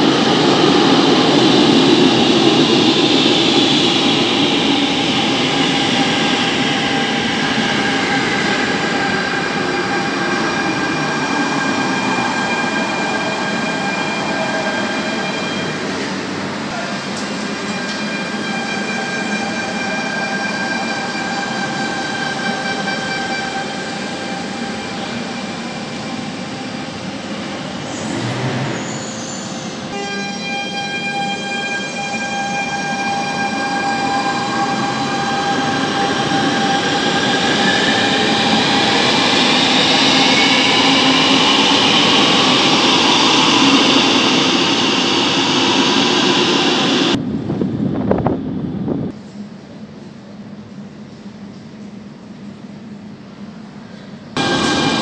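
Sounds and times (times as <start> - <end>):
metro train motor whine: 0.0 - 55.0
train running noise: 0.0 - 55.0.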